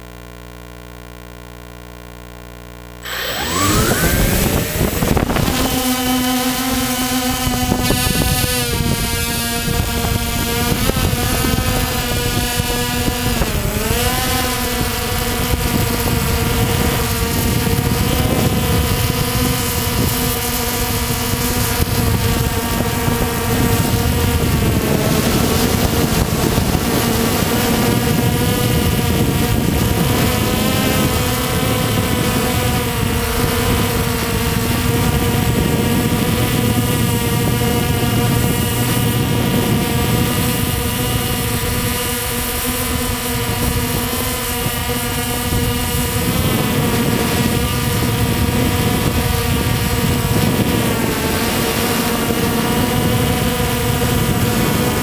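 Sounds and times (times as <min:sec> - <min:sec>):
drone propellers whining: 0:03.0 - 0:55.0.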